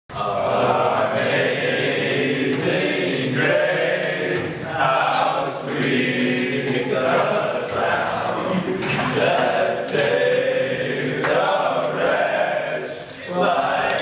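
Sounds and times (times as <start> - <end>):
choir singing chords: 0.1 - 14.0.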